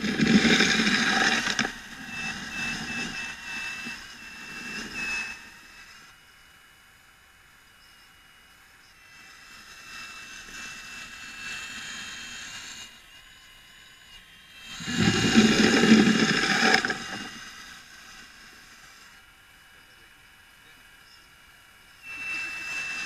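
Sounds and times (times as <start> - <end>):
electric motors and gears whining: 0.0 - 23.0.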